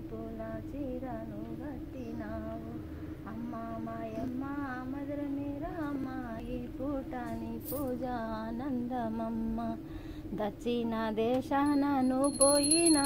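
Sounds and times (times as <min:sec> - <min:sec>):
women singing devotional song: 0:00.0 - 0:13.0.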